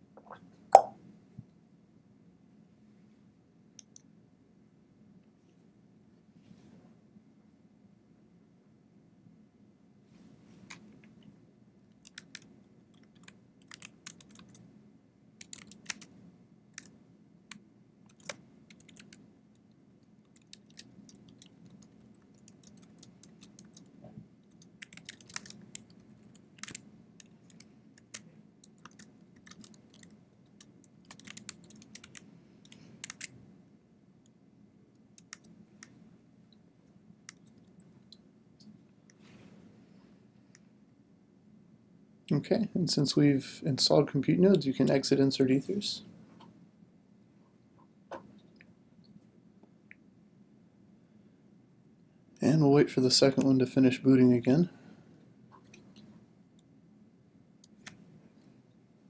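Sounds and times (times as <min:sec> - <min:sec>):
faint steady low hum: 0:00.0 - 0:59.0.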